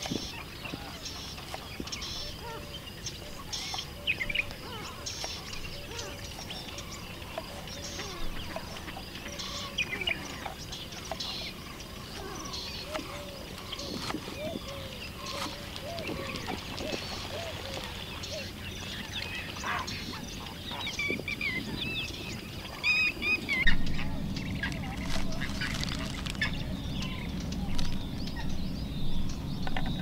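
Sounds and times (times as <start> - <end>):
birds chirping: 0.0 - 30.0
steady background hiss: 0.0 - 30.0.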